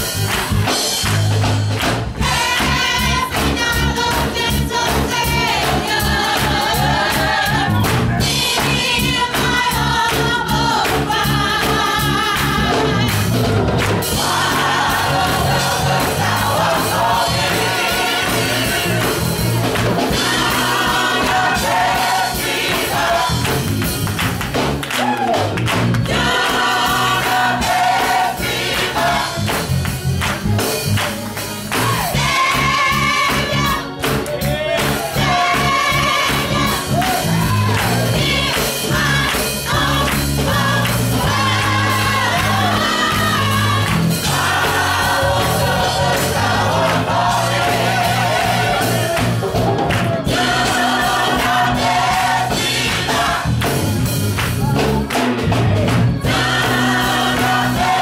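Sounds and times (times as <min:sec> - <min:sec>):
bass line and beat: 0:00.0 - 0:58.0
choir singing: 0:02.2 - 0:23.7, 0:26.0 - 0:29.5, 0:31.8 - 0:53.7, 0:55.3 - 0:58.0.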